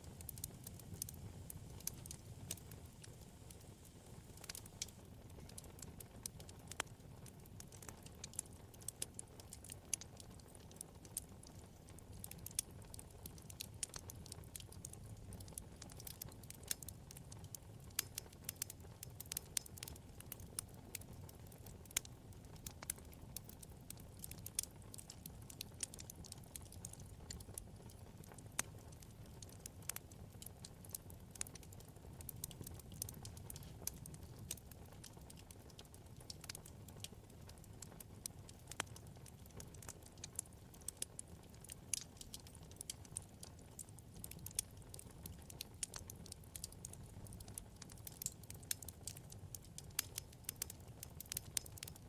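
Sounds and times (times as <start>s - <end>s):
low rumble of flames: 0.0s - 52.0s
wood fire crackling and popping: 0.0s - 52.0s.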